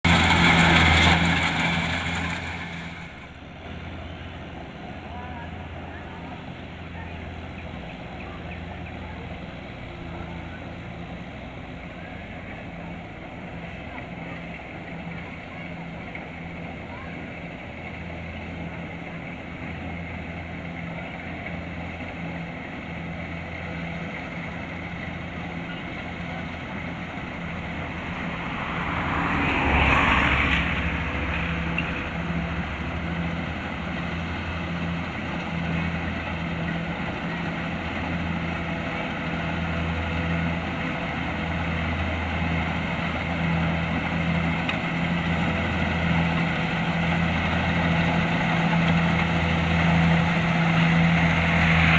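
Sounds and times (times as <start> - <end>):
combine harvester diesel engine: 0.0 - 51.9.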